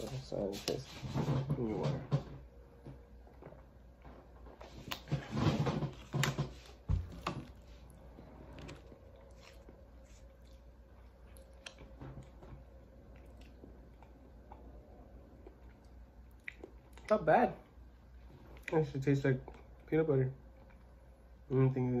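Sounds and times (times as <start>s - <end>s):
quiet chewing: 2.9s - 21.6s.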